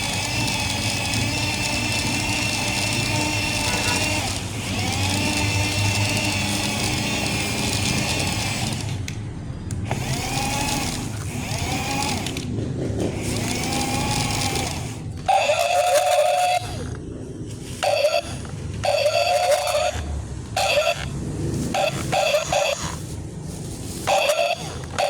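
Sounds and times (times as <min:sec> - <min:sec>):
toy excavator motors whining: 0:00.0 - 0:25.0.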